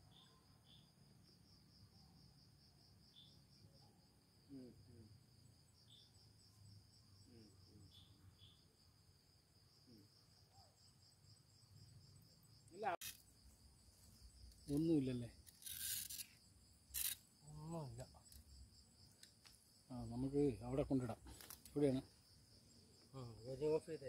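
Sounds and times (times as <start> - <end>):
insects chirping trill: 0.0 - 24.0.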